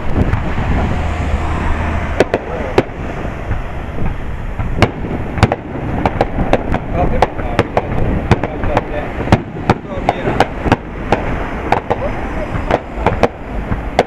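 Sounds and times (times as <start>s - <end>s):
fireworks bursting: 0.0s - 14.0s
rushing background noise: 0.0s - 14.0s.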